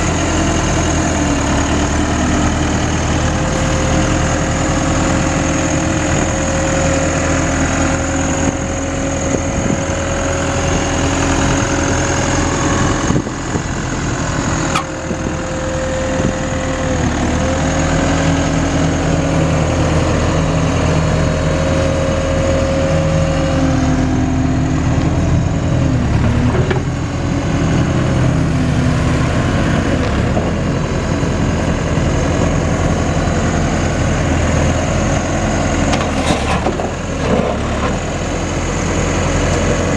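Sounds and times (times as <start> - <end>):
backhoe diesel engine whining: 0.0 - 39.9.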